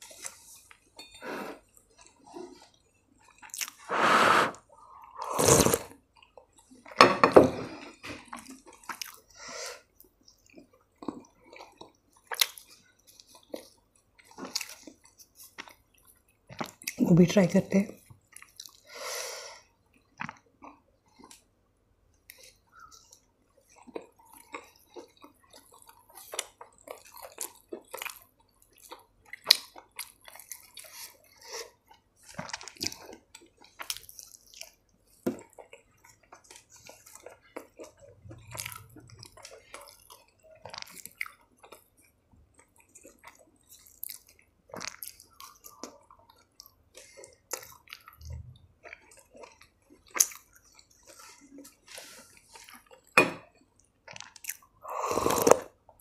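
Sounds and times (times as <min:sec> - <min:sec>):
person chewing food: 0:00.0 - 0:17.0, 0:18.0 - 0:19.0, 0:19.7 - 0:21.5, 0:22.1 - 0:56.0.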